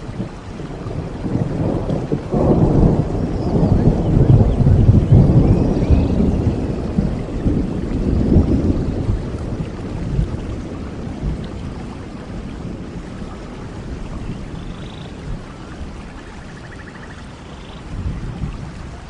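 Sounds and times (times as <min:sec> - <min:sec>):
steady rain: 0:00.0 - 0:19.0
thunder rumble: 0:00.0 - 0:19.0.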